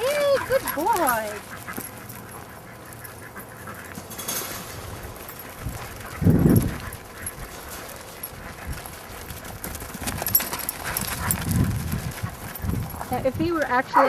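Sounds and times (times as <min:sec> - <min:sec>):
sheep hooves clattering: 0:00.0 - 0:14.0.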